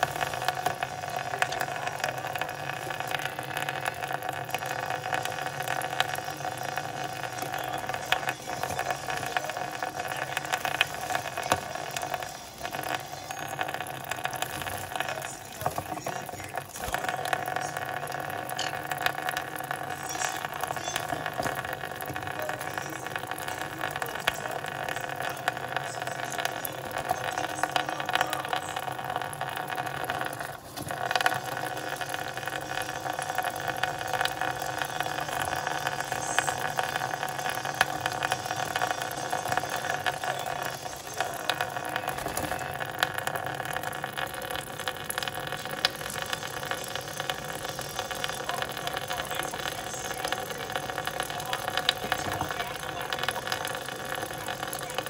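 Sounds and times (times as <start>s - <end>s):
tap water pouring into sink: 0.0s - 55.0s.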